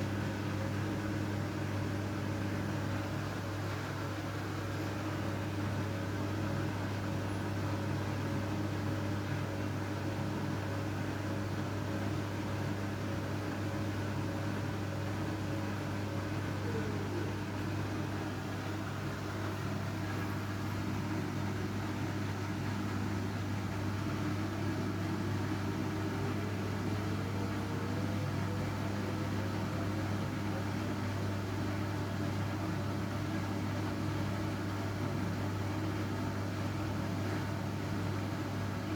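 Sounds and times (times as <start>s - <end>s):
washing machine motor hum: 0.0s - 38.9s.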